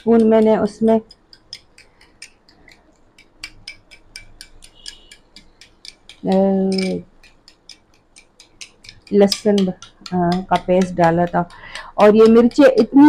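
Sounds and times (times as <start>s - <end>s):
spoon clicking against glass bowl: 0.0s - 13.0s.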